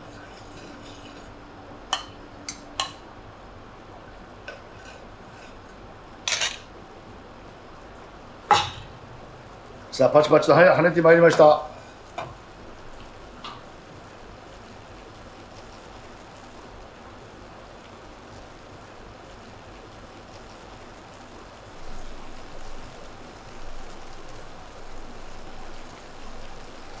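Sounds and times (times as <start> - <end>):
batter sizzling in a frying pan: 0.0 - 27.0.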